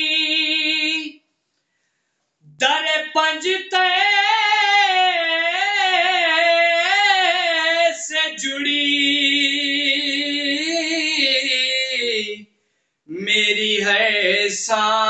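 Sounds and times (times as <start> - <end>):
man singing unaccompanied: 0.0 - 1.2, 2.5 - 15.0.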